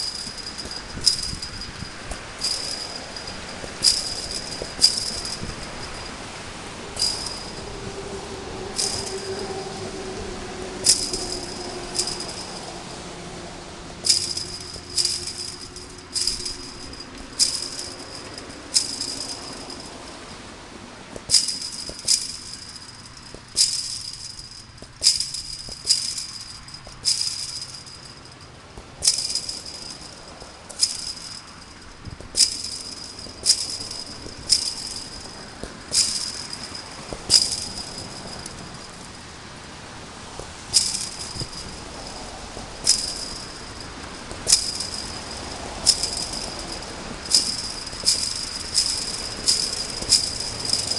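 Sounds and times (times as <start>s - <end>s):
chain-link fence rattling: 0.0s - 50.9s.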